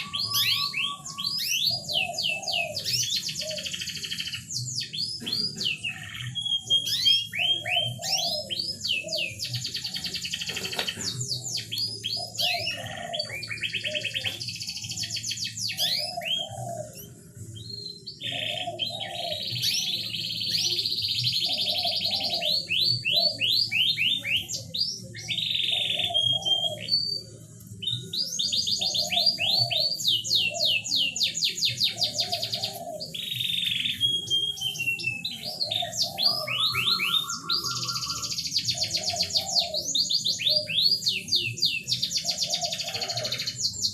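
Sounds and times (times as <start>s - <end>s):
canary song: 0.0s - 43.9s.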